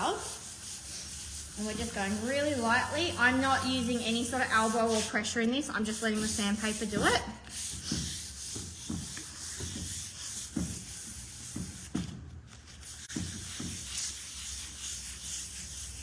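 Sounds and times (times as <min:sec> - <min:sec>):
sandpaper scratching on wood: 0:00.0 - 0:12.1, 0:12.7 - 0:16.0.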